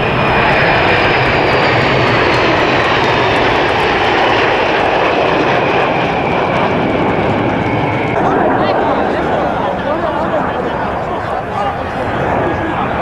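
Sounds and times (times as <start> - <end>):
jet engines rushing overhead: 0.0 - 13.0
jet high whine: 0.0 - 13.0.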